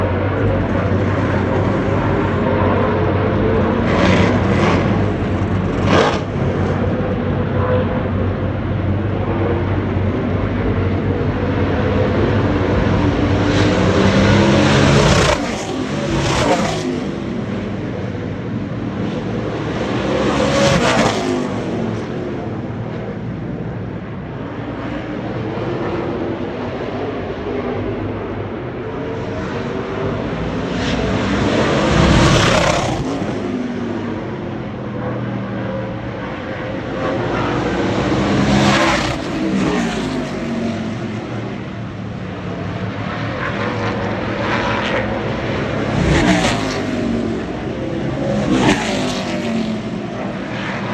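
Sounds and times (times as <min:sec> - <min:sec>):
race truck engines passing: 0:00.0 - 0:23.0, 0:29.2 - 0:50.9.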